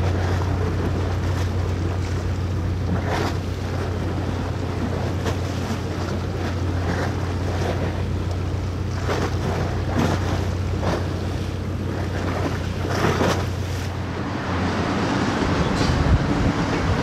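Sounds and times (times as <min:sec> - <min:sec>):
boat engine humming: 0:00.0 - 0:17.0
water splashing against hull: 0:00.0 - 0:17.0
wind buffeting microphone: 0:00.0 - 0:17.0.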